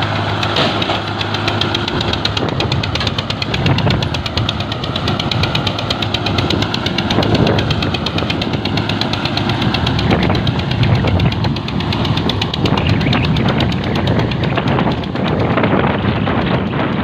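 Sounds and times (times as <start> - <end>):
diesel tractor engine clattering: 0.0 - 17.0.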